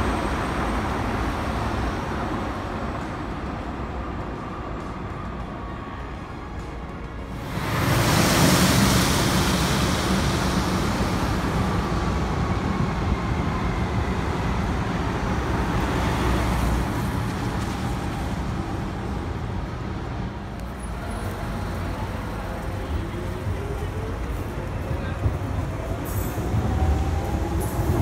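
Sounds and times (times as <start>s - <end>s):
low hum of road traffic: 0.0s - 28.0s
train rushing along viaduct: 0.0s - 28.0s.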